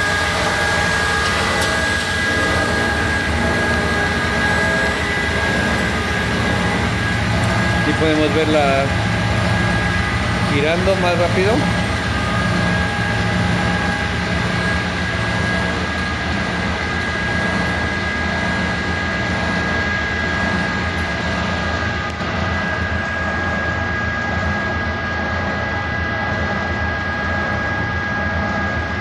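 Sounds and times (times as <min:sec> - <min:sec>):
washer drum spinning with high whine: 0:00.0 - 0:29.0.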